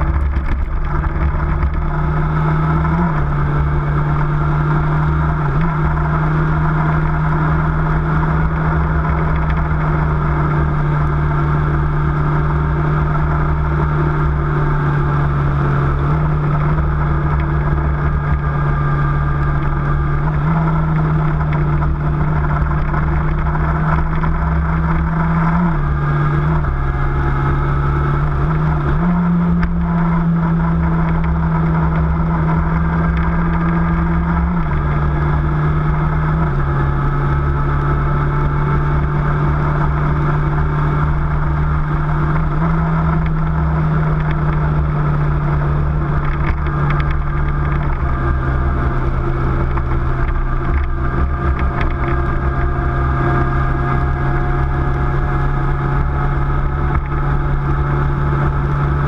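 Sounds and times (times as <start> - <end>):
motorcycle engine running: 0.0 - 59.0
road rumble: 0.0 - 59.0
wind: 0.0 - 59.0.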